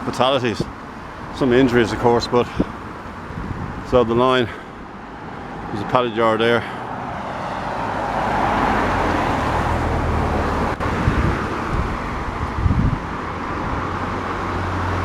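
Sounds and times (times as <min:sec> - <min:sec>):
low traffic rumble: 0:00.0 - 0:15.0
car passing by: 0:00.9 - 0:15.0.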